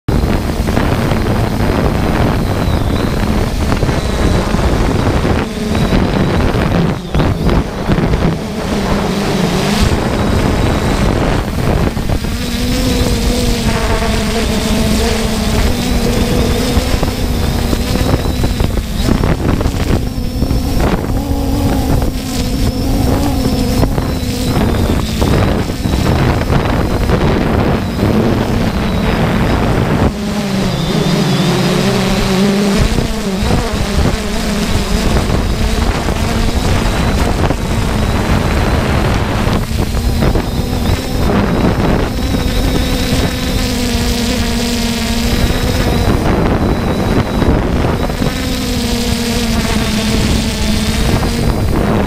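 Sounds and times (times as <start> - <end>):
drone propellers humming: 0.0 - 52.0
wind buffeting microphone: 0.1 - 52.0.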